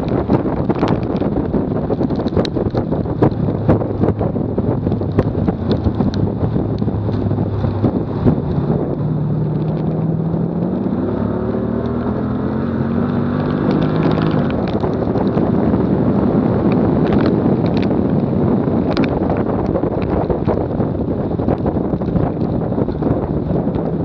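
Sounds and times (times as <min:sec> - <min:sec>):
car engine accelerating: 0:00.0 - 0:24.0
wind buffeting microphone: 0:00.0 - 0:24.0.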